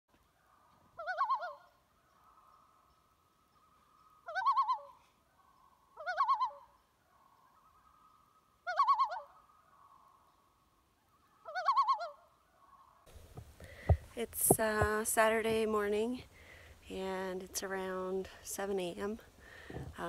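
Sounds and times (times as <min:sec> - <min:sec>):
faint steady background tone: 0:00.1 - 0:20.0.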